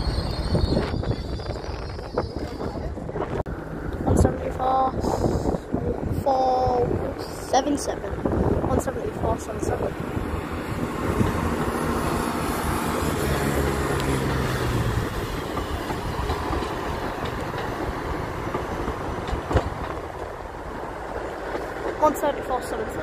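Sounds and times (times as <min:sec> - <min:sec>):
train wheels on rail: 0:00.0 - 0:23.0.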